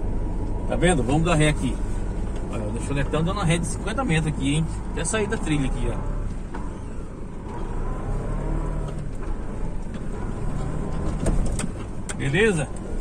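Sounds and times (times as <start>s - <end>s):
diesel engine running at low revs: 0.0s - 13.0s.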